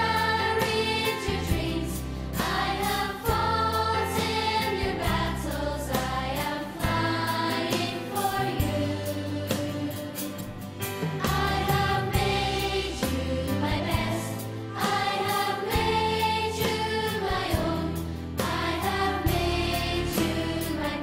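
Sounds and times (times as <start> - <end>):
choir singing sustained notes: 0.0 - 10.3, 11.2 - 21.0.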